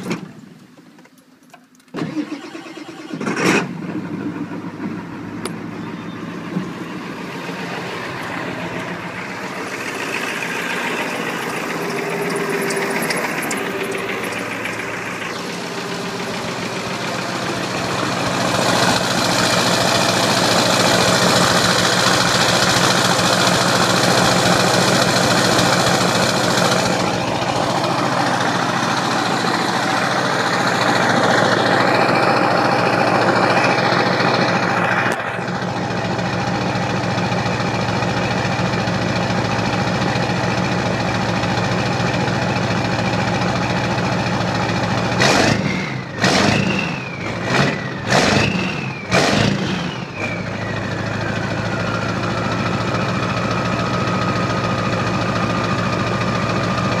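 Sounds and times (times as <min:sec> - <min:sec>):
diesel engine cranking and idling: 0:00.0 - 0:57.0.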